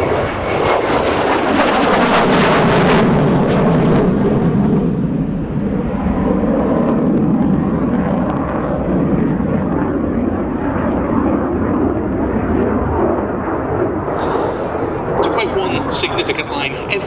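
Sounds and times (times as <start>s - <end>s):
jet flying overhead rumbling: 0.0s - 17.0s.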